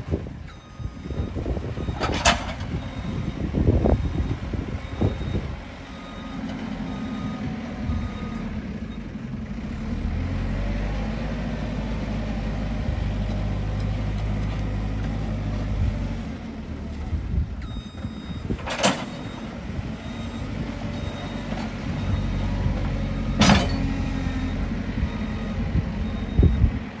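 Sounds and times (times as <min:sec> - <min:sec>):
heavy diesel engines running: 0:00.0 - 0:27.0.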